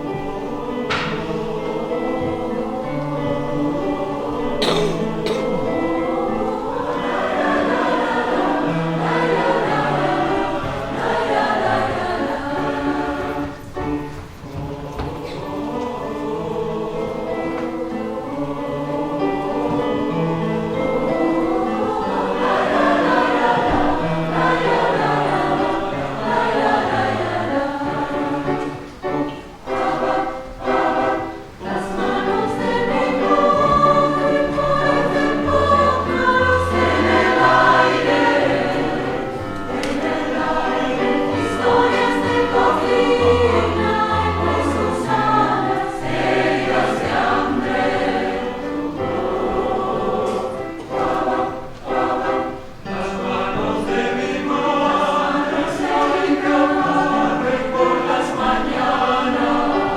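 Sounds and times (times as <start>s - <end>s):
choir singing in parts: 0.0s - 59.9s.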